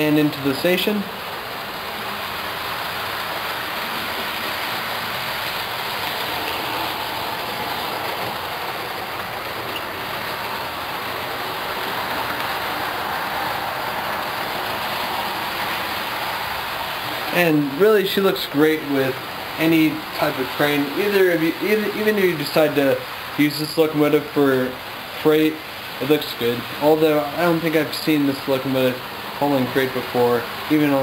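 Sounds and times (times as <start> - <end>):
model train wheels whirring on rails: 0.0 - 31.0.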